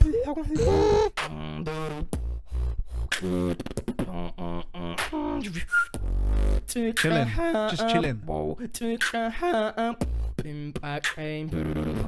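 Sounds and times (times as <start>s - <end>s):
person beatboxing: 0.0s - 8.0s, 9.9s - 12.0s.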